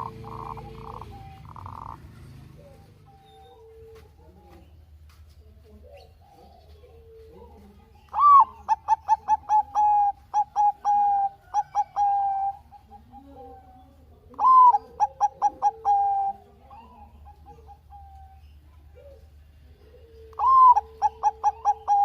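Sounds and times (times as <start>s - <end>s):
dove cooing: 0.0s - 4.7s, 5.6s - 22.0s.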